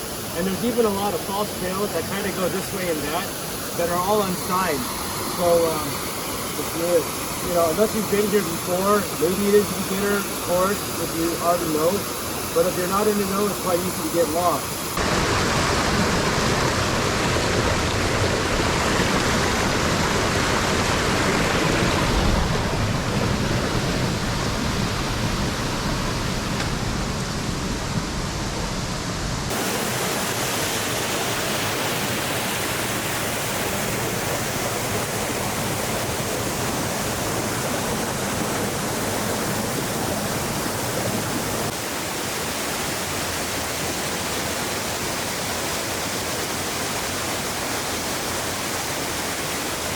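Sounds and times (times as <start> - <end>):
waterfall rushing: 0.0 - 28.8, 29.4 - 49.9.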